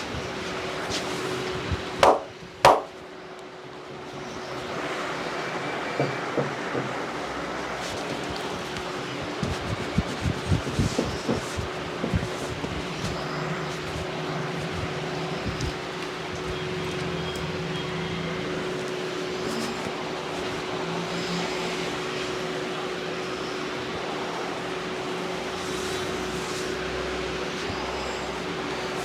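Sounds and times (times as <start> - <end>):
street traffic noise: 0.0 - 29.0.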